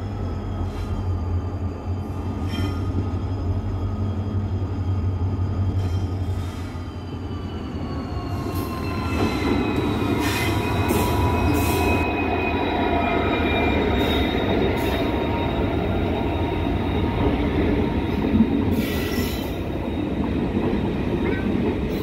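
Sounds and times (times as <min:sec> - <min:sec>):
train coaches rolling by: 0:00.0 - 0:22.0
train wheels squealing: 0:00.0 - 0:22.0.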